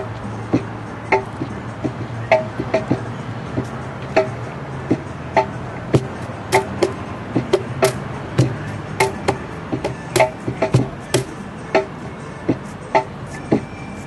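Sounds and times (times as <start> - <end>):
cajon slaps and bass strokes: 0.0 - 13.7.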